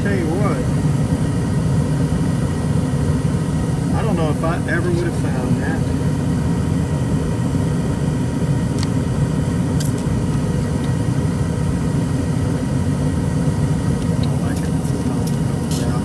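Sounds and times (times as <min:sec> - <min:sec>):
gas furnace running: 0:00.0 - 0:16.0.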